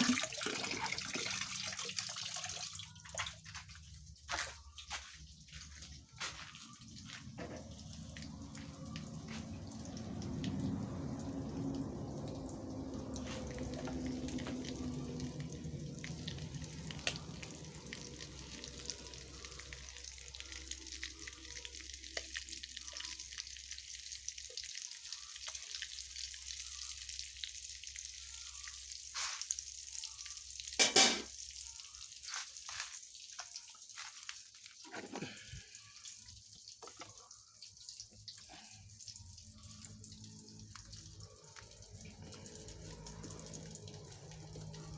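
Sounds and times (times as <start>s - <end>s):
chicken frying in hot oil: 0.0s - 44.9s.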